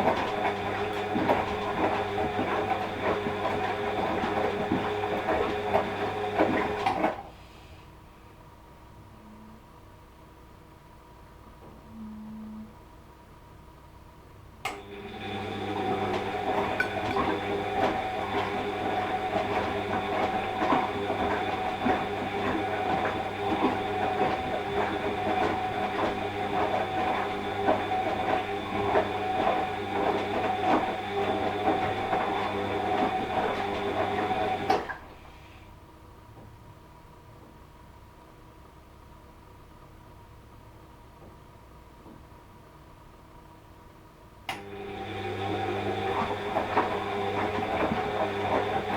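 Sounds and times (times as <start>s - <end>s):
washing machine motor hum: 0.0s - 10.6s, 14.4s - 48.9s.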